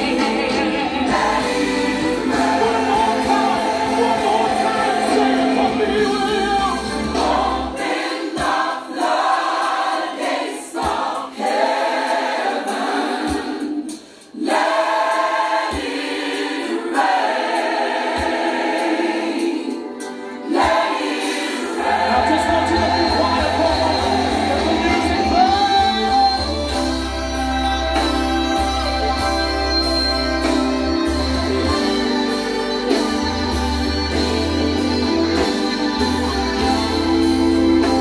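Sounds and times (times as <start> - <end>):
choir singing gospel music: 0.0 - 38.0.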